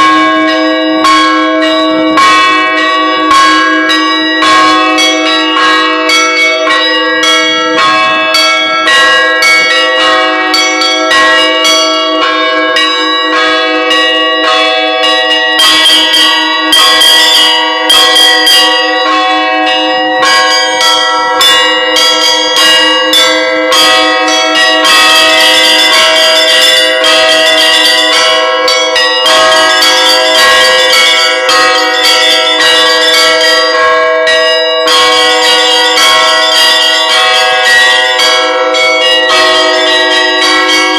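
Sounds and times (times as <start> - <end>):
bells ringing: 0.0 - 40.9.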